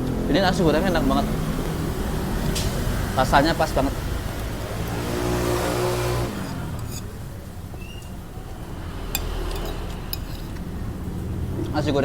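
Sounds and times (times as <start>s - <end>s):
traffic noise: 0.0s - 12.0s
vehicle passing: 0.0s - 12.0s.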